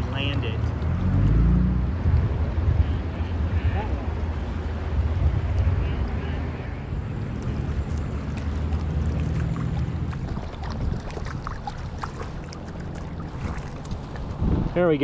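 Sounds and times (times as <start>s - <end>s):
light water splashes: 0.0s - 15.0s
river water flowing: 0.0s - 15.0s.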